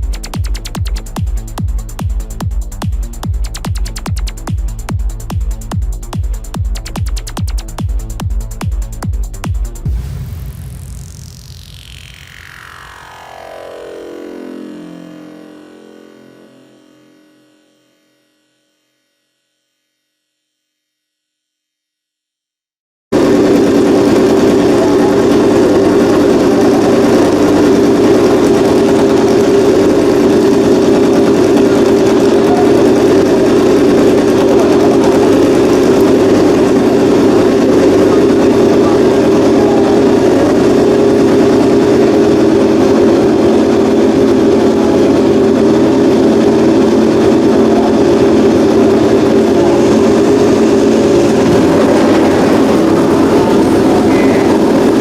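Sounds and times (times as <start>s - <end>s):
racing motorcycle engine running: 0.0s - 18.2s, 23.1s - 55.0s.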